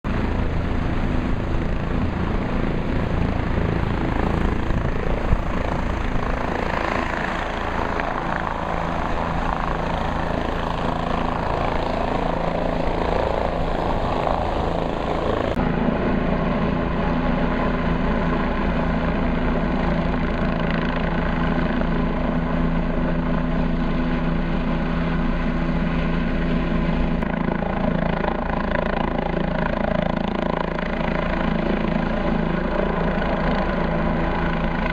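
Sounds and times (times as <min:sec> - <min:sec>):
helicopter engine whine: 0:00.1 - 0:34.9
helicopter rotor beating: 0:00.1 - 0:34.9.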